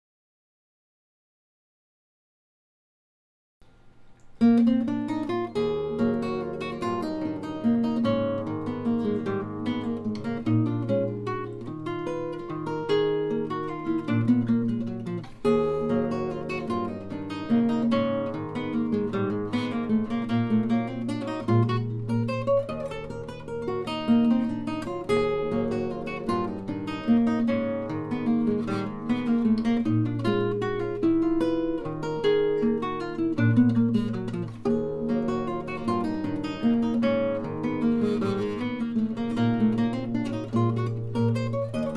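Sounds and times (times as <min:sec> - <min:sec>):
acoustic guitar playing: 0:03.6 - 0:41.9.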